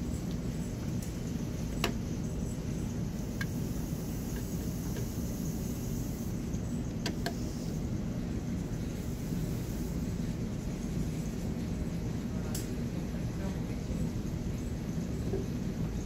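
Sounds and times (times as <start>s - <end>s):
low room rumble: 0.0s - 16.0s.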